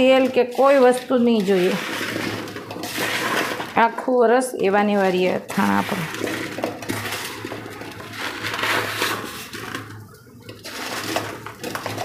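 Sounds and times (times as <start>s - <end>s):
hand mixing food in metal bowl: 0.0s - 12.0s.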